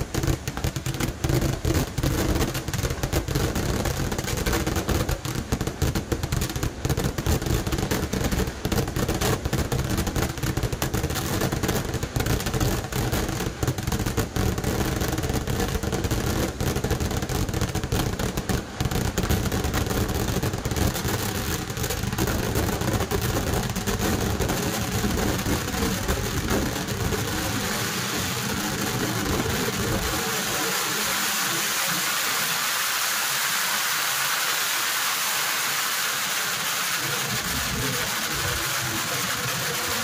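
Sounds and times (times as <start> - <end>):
fireworks exploding: 0.0 - 40.0.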